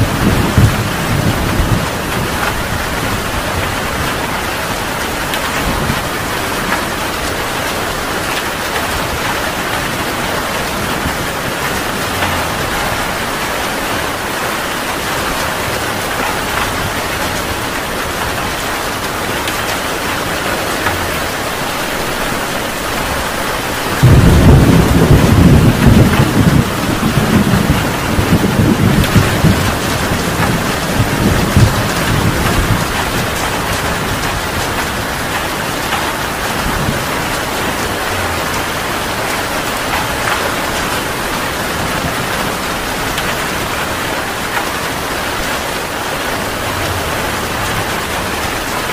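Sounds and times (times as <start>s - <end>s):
heavy rain: 0.0s - 48.9s
rolling thunderclap: 0.0s - 48.9s.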